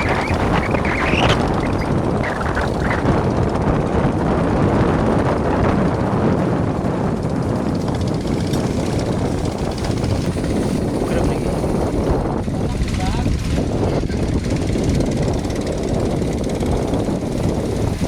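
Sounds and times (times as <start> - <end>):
boat engines droning: 0.0 - 18.0.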